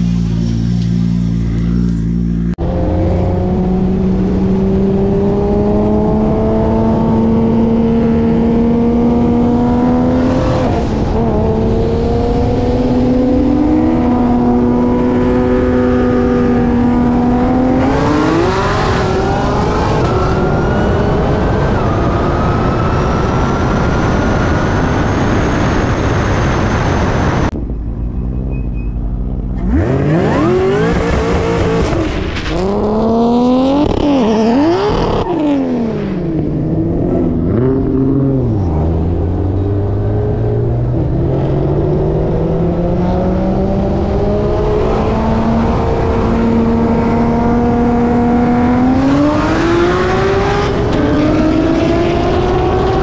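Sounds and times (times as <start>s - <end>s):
car engine accelerating hard: 0.0s - 27.6s, 29.1s - 53.0s.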